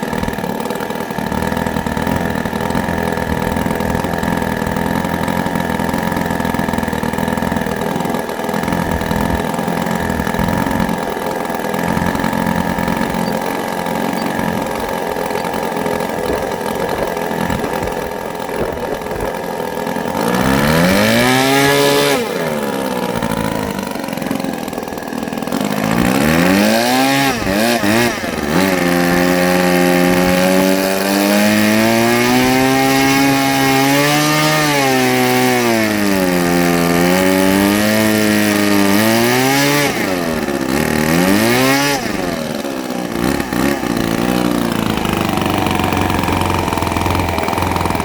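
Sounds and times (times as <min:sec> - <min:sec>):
model engine revving: 0:00.0 - 0:48.0.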